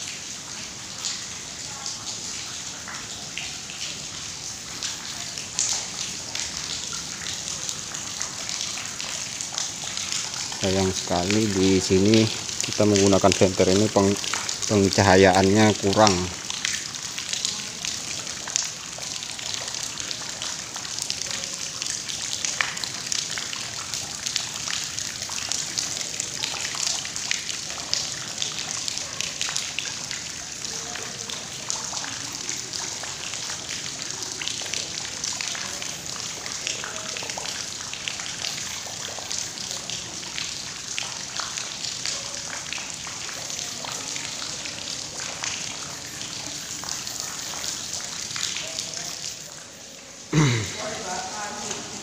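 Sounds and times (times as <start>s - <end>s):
water drips: 0.0s - 52.0s
water rushing and trickling: 0.0s - 52.0s.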